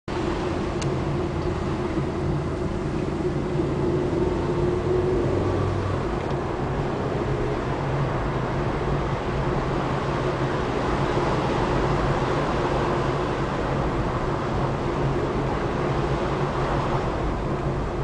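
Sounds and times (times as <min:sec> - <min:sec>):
car engine hum: 0:00.1 - 0:18.0
tyre and road noise: 0:00.1 - 0:18.0.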